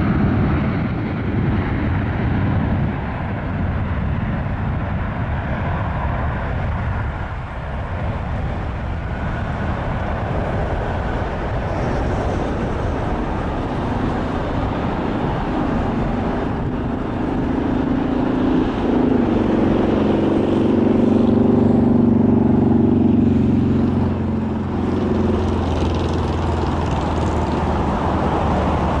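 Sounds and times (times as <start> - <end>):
jet engines low rumble: 0.0 - 29.0.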